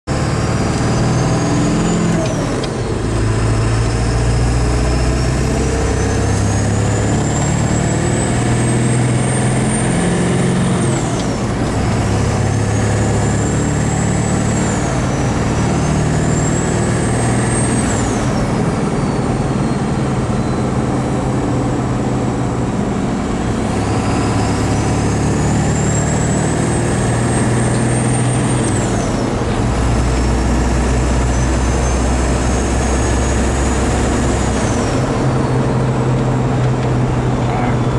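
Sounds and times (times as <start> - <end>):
diesel engine running: 0.1 - 37.9
turbo whining: 0.1 - 37.9.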